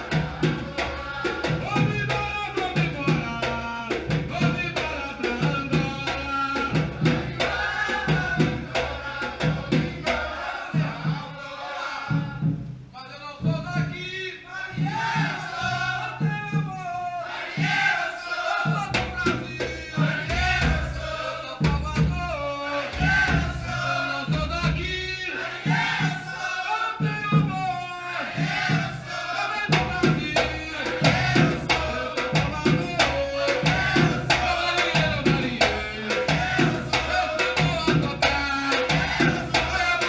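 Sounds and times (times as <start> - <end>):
drum ensemble playing: 0.0 - 40.0
group singing: 0.0 - 40.0.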